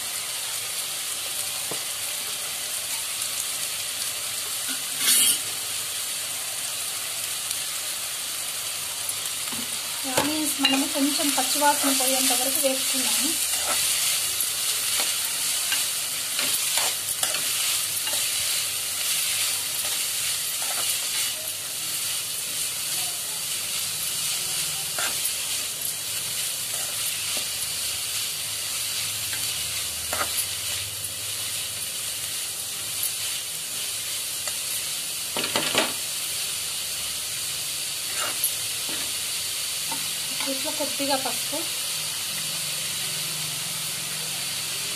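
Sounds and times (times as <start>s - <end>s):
vegetables sizzling in a pan: 0.0s - 44.9s.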